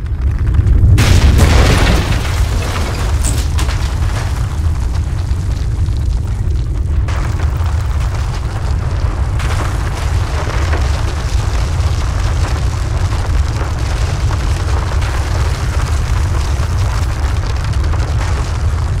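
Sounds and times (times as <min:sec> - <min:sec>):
crackling noise: 0:00.0 - 0:19.0
deep rumble: 0:00.0 - 0:19.0.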